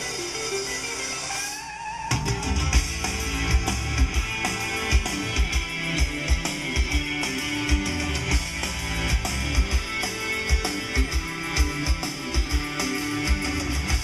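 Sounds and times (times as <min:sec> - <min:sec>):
rock music with guitar and drums: 0:00.0 - 0:14.0.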